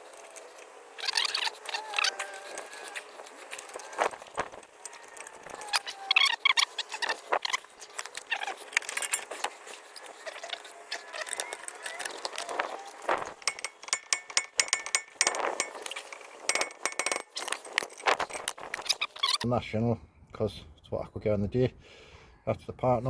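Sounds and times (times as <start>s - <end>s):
metal tools clinking: 0.0s - 19.4s.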